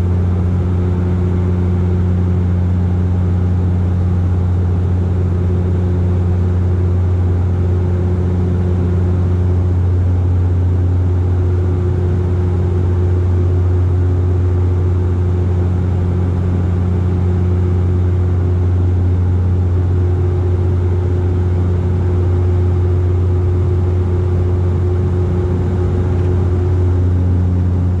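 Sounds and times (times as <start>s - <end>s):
turboprop engines droning in cabin: 0.0s - 28.0s.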